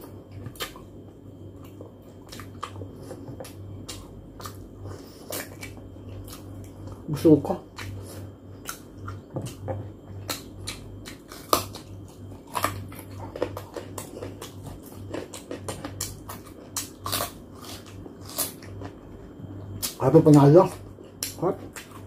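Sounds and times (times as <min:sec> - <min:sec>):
small crunches of chewing: 0:00.0 - 0:22.0
steady low hum: 0:00.0 - 0:22.0.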